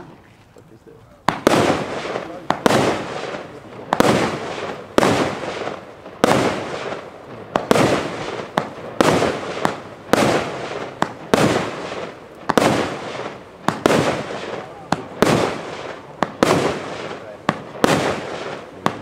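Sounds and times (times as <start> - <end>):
fireworks bangs: 0.0 - 19.0
small fireworks pops: 0.0 - 19.0.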